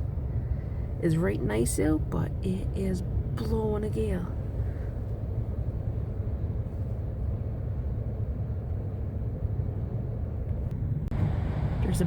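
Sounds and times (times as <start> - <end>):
wind buffeting truck: 0.0 - 12.0.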